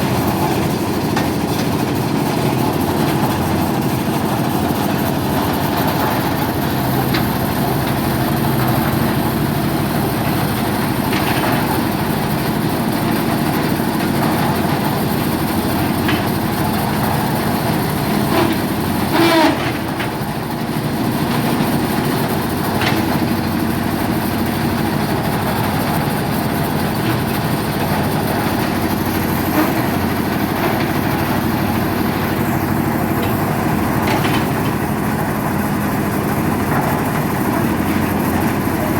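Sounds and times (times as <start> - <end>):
diesel engine running: 0.0 - 38.9
engine knocks: 0.0 - 38.9.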